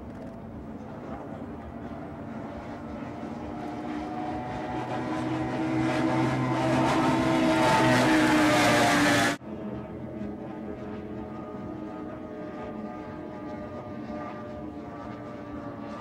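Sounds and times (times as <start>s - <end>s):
race boat engines: 0.0s - 16.0s.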